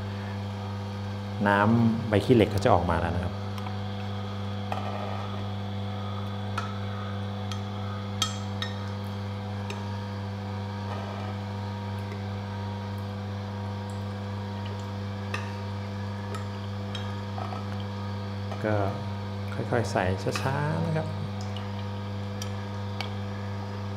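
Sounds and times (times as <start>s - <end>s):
juicer humming: 0.0s - 23.9s.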